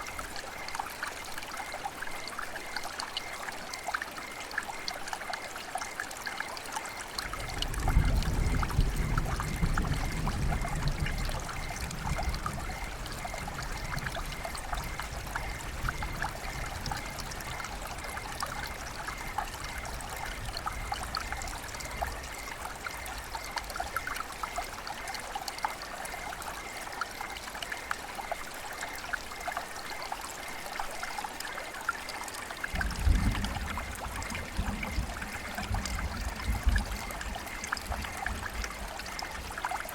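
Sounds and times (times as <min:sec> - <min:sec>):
river water babbling: 0:00.0 - 0:08.6, 0:11.3 - 0:39.9.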